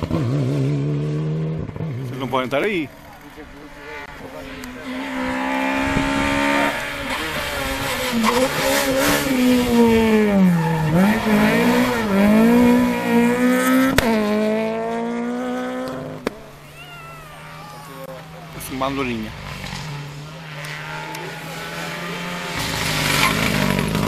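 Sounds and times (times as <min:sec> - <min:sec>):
rally car engine passing at speed: 0:00.0 - 0:24.0.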